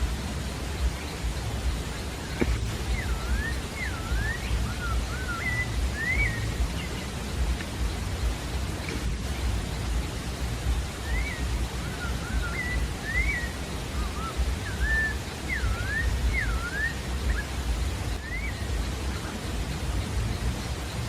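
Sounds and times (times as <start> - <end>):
low rushing noise: 0.0 - 21.0
thrush singing whistled notes: 0.0 - 21.0.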